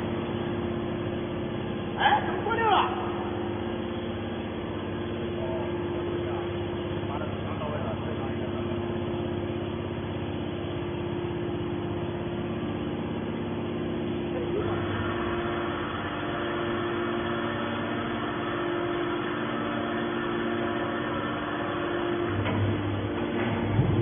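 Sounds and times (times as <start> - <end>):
hydraulic power unit humming: 0.0 - 24.0.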